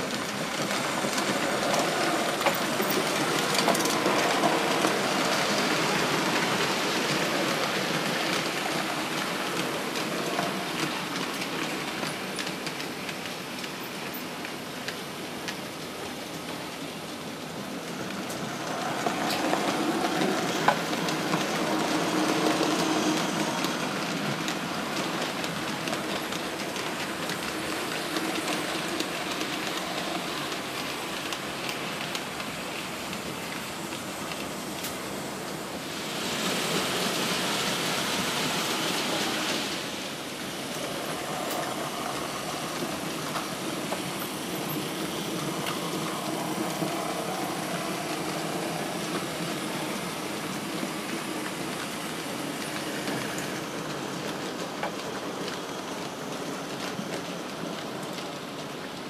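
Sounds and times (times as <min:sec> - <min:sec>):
model train wheels rattling on rails: 0:00.0 - 0:59.0.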